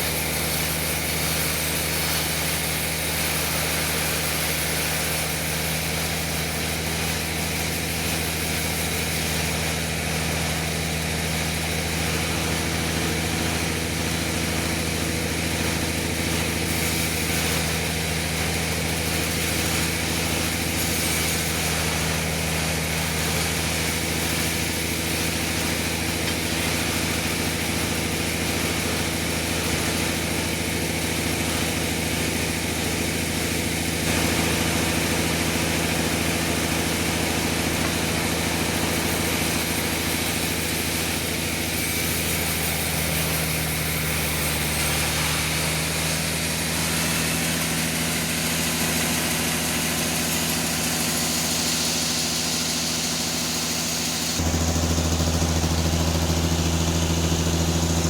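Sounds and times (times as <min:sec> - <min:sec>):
sawmill motor hum: 0:00.0 - 0:58.0.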